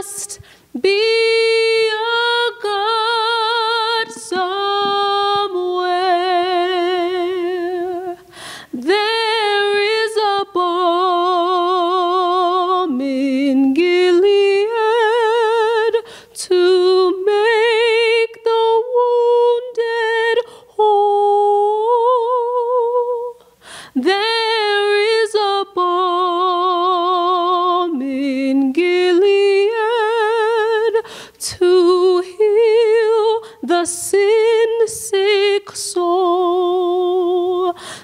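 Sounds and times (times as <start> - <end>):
woman singing unaccompanied: 0.0 - 38.0.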